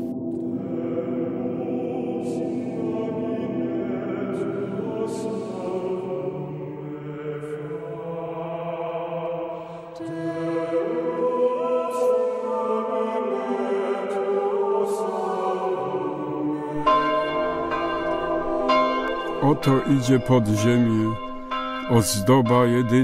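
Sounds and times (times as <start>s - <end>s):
choir chanting long notes: 0.0s - 23.0s.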